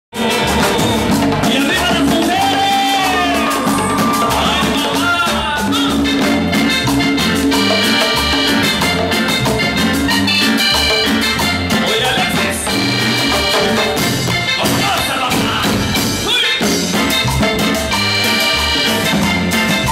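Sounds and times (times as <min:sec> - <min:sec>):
latin dance music: 0:00.1 - 0:19.9.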